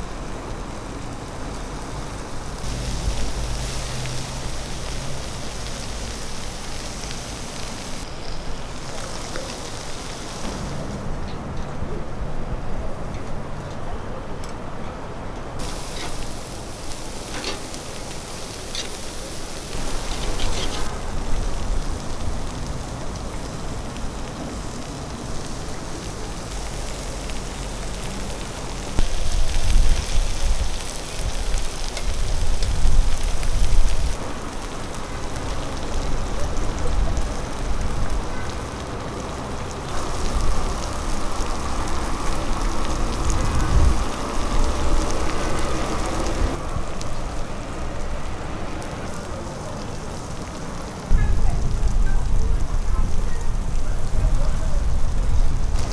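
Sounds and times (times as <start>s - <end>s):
meat sizzling on a grill: 0.0s - 11.1s, 15.6s - 55.9s.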